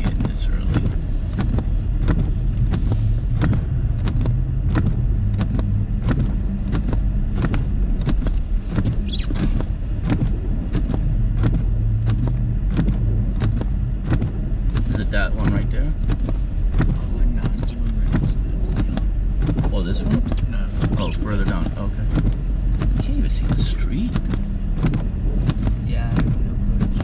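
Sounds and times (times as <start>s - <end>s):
car engine and road rumble: 0.0s - 27.0s
sharp clicks and knocks: 0.0s - 27.0s.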